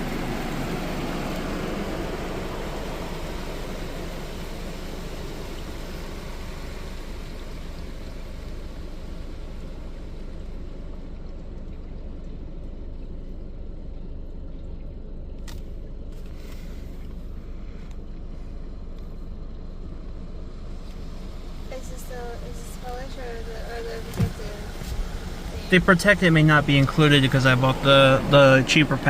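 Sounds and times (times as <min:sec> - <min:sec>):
water spraying over car: 0:00.0 - 0:29.0.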